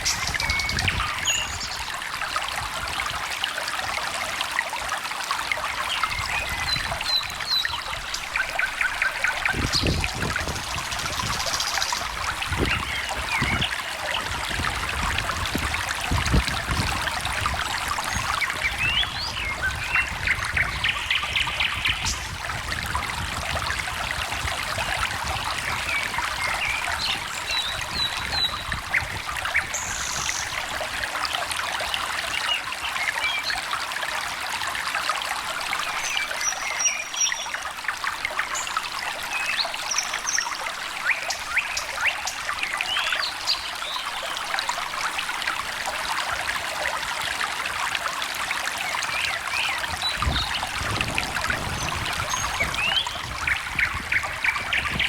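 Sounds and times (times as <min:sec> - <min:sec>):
small stream trickling: 0:00.0 - 0:55.0.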